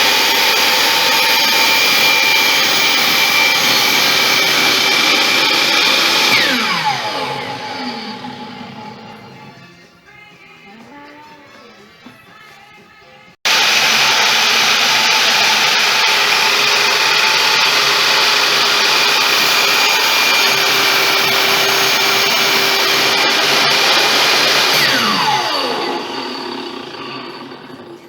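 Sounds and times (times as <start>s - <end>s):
power tool running and spinning down: 0.0s - 9.6s, 13.5s - 28.0s.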